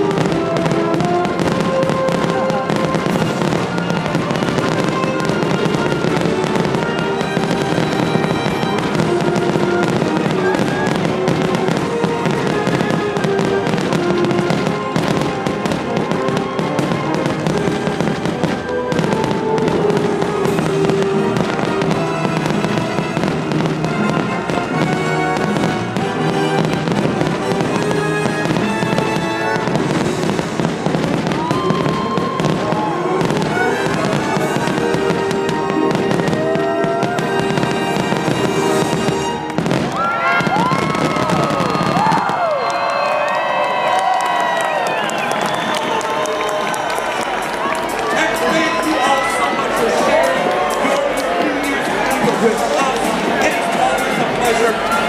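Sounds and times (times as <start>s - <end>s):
fireworks bursting: 0.0s - 55.0s
fireworks whistling: 0.0s - 55.0s
orchestral soundtrack: 0.0s - 55.0s.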